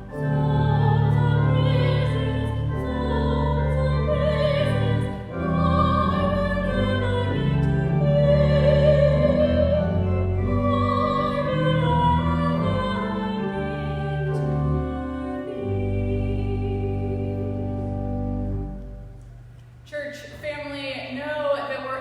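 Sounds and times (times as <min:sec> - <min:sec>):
slow church music chords: 0:00.0 - 0:19.8.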